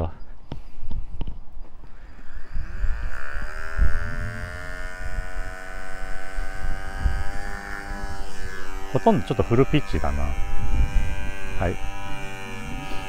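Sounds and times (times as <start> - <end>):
toy helicopter motor whine: 1.7 - 13.0.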